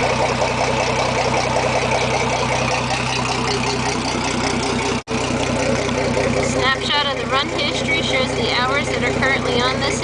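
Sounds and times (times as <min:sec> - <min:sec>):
outboard engines idling: 0:00.0 - 0:10.0.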